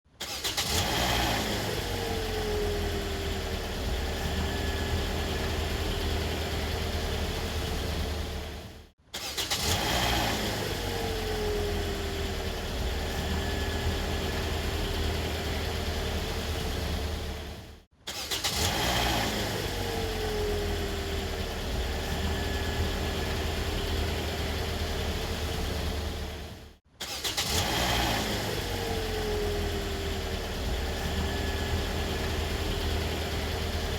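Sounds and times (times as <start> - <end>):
car engine starting and idling: 0.1 - 33.9.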